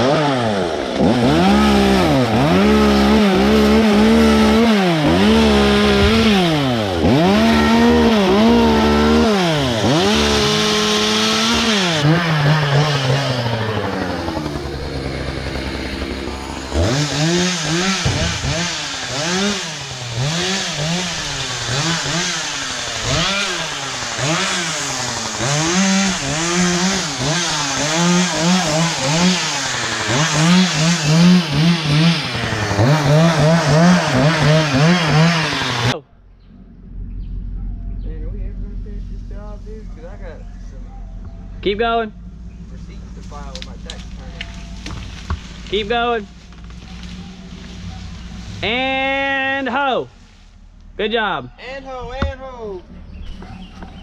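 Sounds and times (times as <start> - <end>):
chainsaw engine revving: 0.0 - 49.8.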